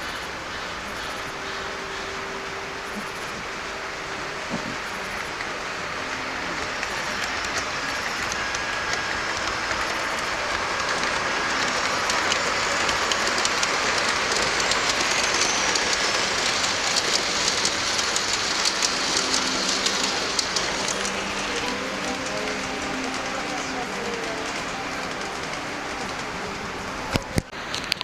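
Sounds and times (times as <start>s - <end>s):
model train wheels rolling: 0.0s - 28.0s
wheels clicking over rail joints: 0.0s - 28.0s.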